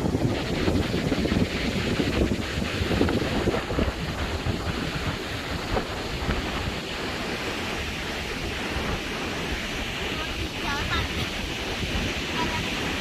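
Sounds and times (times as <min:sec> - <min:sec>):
sea waves washing on beach: 0:00.0 - 0:13.0
wind buffeting microphone: 0:00.0 - 0:13.0.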